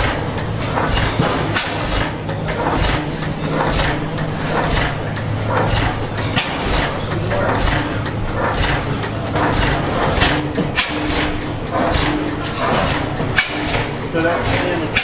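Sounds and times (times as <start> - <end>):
stationary engines running: 0.0 - 15.0.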